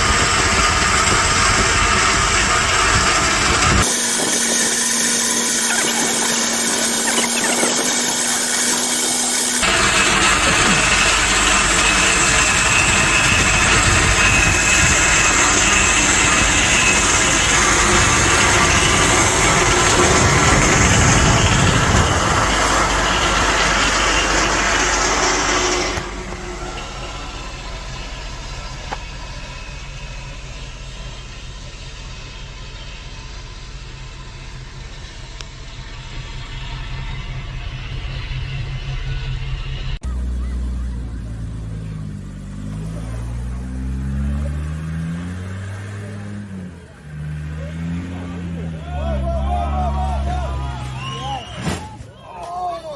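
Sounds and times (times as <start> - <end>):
road noise: 0.0 - 52.9
vehicle engine: 0.0 - 52.9.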